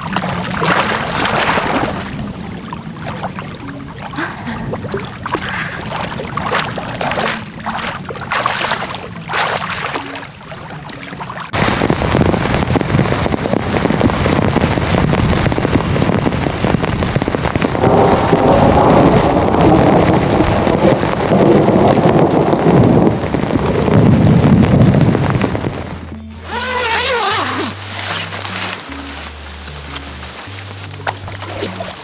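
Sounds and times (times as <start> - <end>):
rushing water: 0.0 - 32.0
wind noise on microphone: 0.0 - 32.0.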